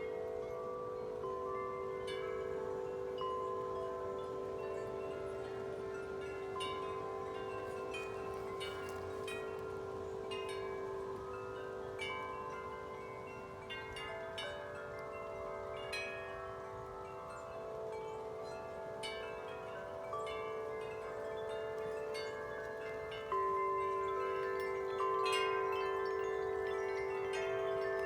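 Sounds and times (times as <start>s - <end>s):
wind chimes ringing: 0.0s - 28.0s.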